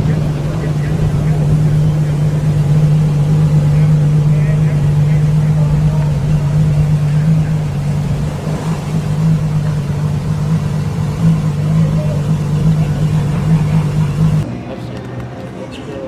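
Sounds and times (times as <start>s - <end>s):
car engine low steady drone: 0.0s - 14.8s.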